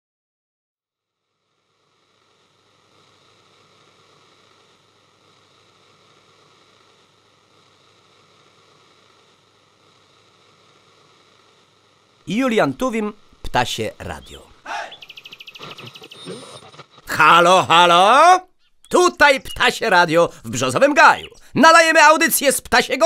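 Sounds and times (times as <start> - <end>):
faint steady rushing noise: 1.3 - 23.0.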